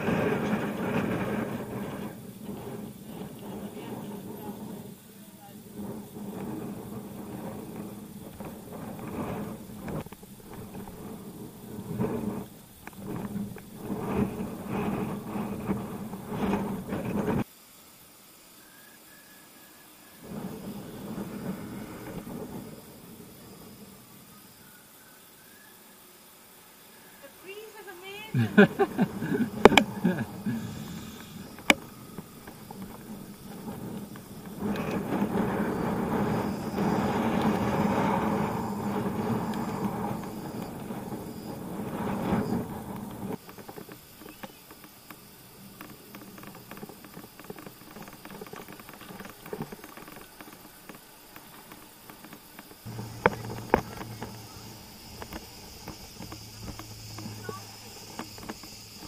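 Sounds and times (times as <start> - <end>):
road rumble: 0.0 - 17.5, 20.2 - 24.6, 27.5 - 59.0
tyres on rough asphalt: 0.0 - 17.5, 20.2 - 24.7, 27.5 - 59.0
wind buffeting microphone: 0.0 - 17.5, 20.2 - 24.6, 27.6 - 59.0
faint steady hiss: 0.0 - 59.0.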